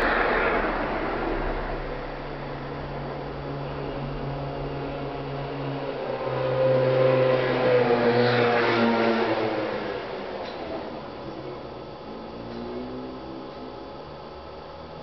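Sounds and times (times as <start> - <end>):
electric train whine passing: 0.0 - 15.0.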